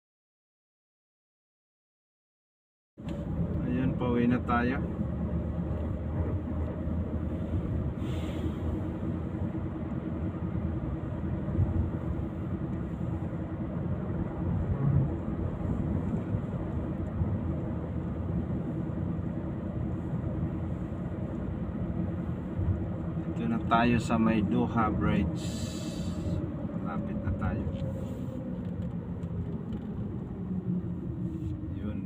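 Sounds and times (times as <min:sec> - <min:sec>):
vehicle engine and road noise: 0:03.0 - 0:32.0.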